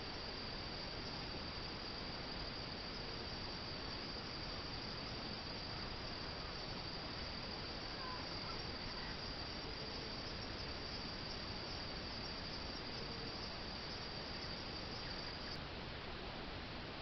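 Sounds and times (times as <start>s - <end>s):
cricket trilling: 0.0s - 15.6s
steady hiss: 0.0s - 17.0s.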